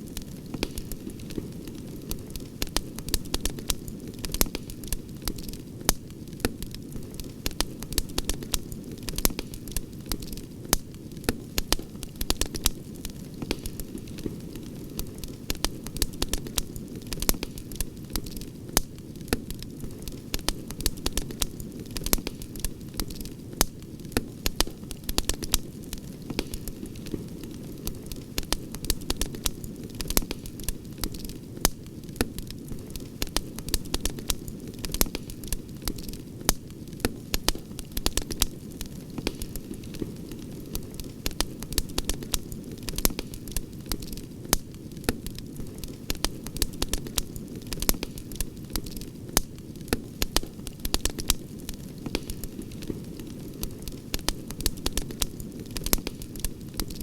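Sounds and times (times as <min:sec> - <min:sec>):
low hiss of burning: 0:00.0 - 0:57.0
campfire pops and snaps: 0:00.1 - 0:57.0.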